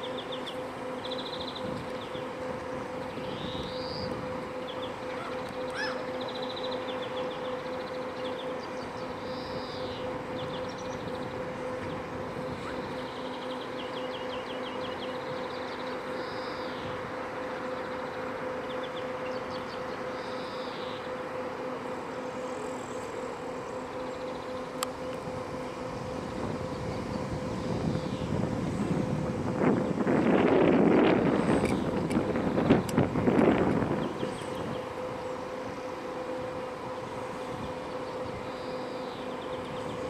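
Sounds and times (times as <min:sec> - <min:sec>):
ship engines humming: 0:00.0 - 0:40.0.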